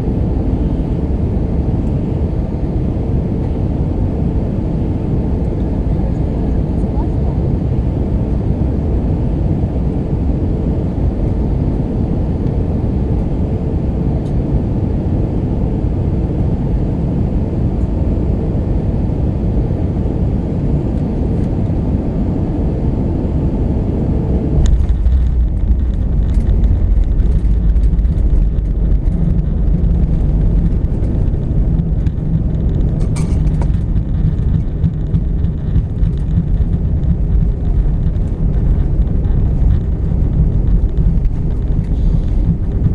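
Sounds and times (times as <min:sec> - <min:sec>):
aircraft cabin engine roar: 0:00.0 - 0:42.9
wheels rumbling on runway: 0:00.0 - 0:42.9.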